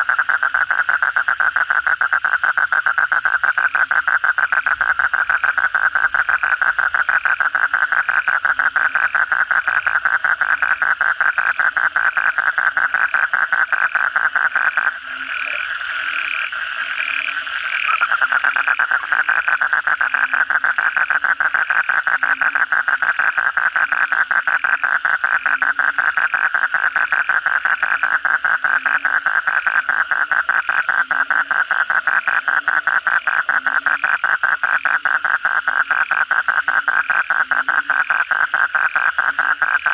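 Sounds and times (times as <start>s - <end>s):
frogs calling softly: 0.0s - 39.9s.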